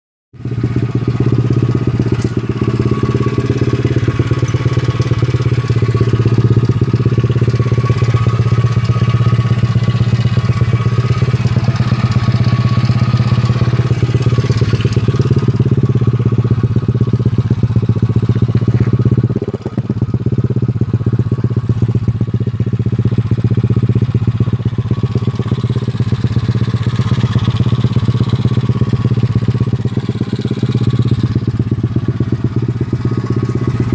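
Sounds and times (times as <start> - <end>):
small motorbike engine idling: 0.4 - 33.9.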